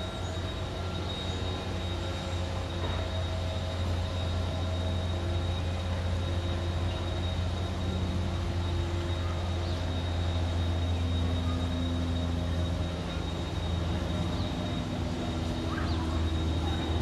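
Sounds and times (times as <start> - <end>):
low machine hum: 0.0 - 17.0
thin high whine: 0.0 - 17.0.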